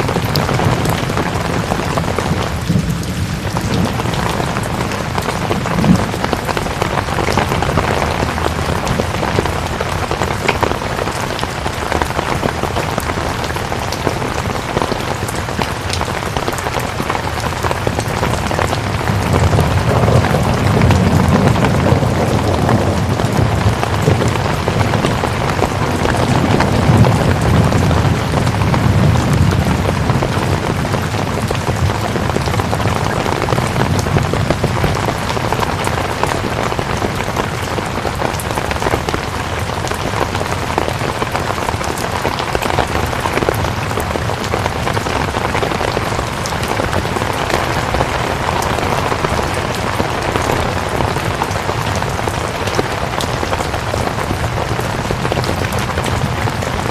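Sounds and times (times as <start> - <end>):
rain drops ticking: 0.0 - 56.9
steady rain falling: 0.0 - 56.9.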